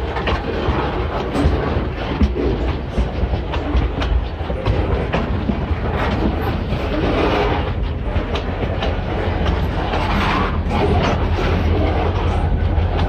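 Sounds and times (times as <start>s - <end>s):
freight train rumble: 0.0s - 13.0s
train wheels clacking on rails: 0.0s - 13.0s.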